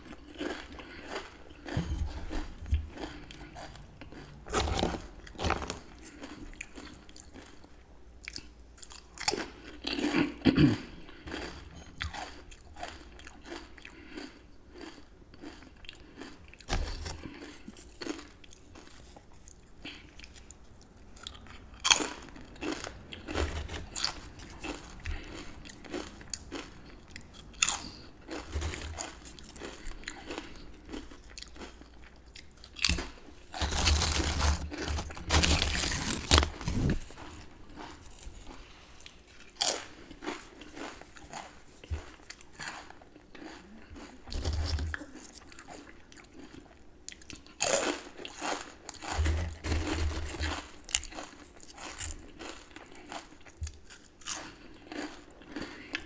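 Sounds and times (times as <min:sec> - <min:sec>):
chewing: 0:00.0 - 0:10.3, 0:11.1 - 0:56.0
crunchy chips crunching: 0:00.0 - 0:56.0.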